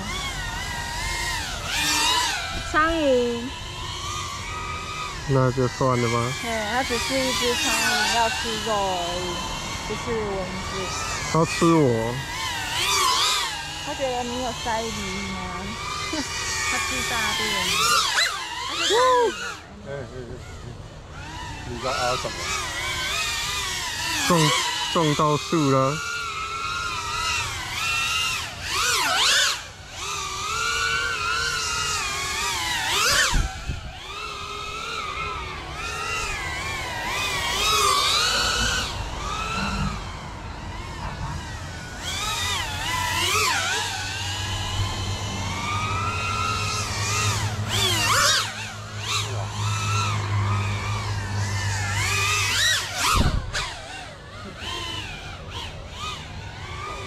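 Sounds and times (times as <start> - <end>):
drone propellers whining: 0.0 - 57.0
low steady hum: 0.0 - 57.0.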